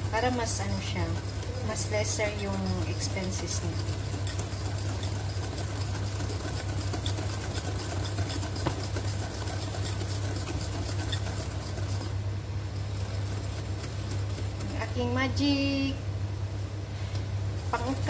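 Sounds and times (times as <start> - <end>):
whisk beating in glass bowl: 0.0 - 15.4, 17.7 - 18.0
steady low hum: 0.0 - 18.0.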